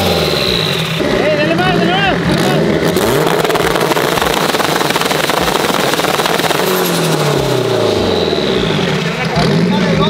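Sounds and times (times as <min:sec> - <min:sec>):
car engine revving high: 0:00.0 - 0:10.0.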